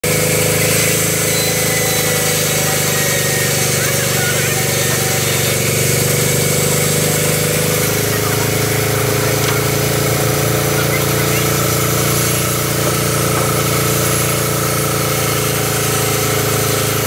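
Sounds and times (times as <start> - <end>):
band sawmill humming: 0.0 - 17.0.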